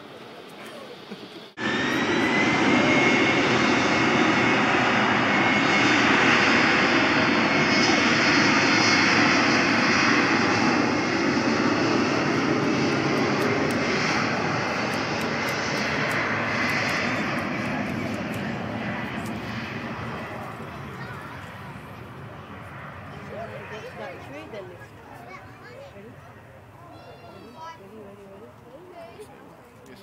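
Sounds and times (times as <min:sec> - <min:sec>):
jet engines roaring: 0:00.0 - 0:26.8
jet engine whine: 0:00.0 - 0:30.0.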